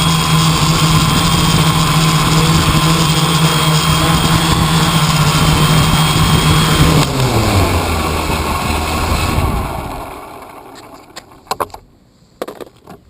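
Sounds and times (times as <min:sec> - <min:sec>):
vehicle engine running: 0:00.0 - 0:11.5.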